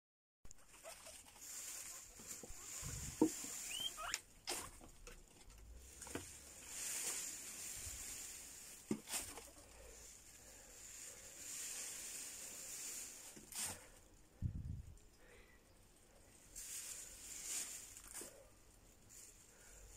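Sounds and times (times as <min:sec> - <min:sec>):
rustling and pattering in twigs: 0:00.5 - 0:15.1, 0:15.8 - 0:19.9.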